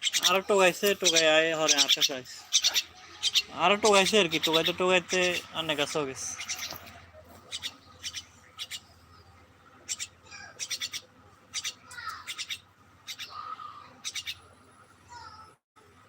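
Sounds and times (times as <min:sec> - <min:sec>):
small bird chirping: 0:00.0 - 0:15.5.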